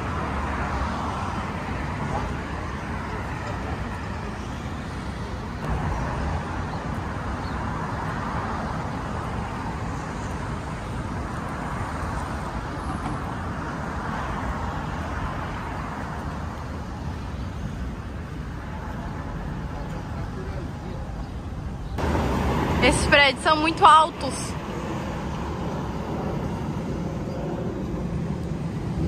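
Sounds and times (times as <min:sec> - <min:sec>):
passing cars rushing: 0:00.0 - 0:29.0.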